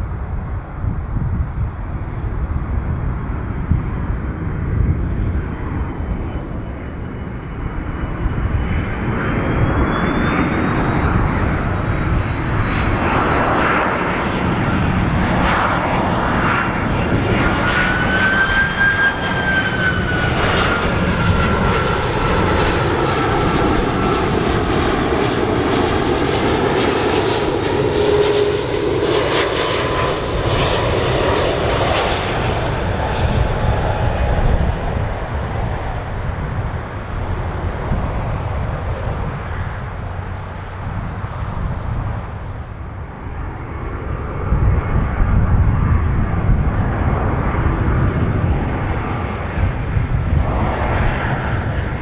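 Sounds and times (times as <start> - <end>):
airliner engines rumbling overhead: 0.0 - 52.0.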